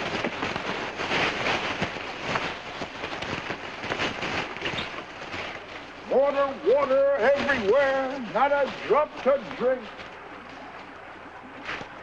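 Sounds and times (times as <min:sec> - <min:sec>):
footsteps crunching dry leaves: 0:00.0 - 0:12.0.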